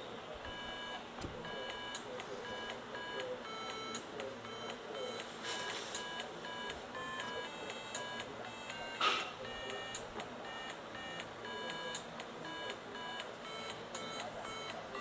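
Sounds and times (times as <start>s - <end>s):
electronic beeping melody: 0.4s - 15.0s.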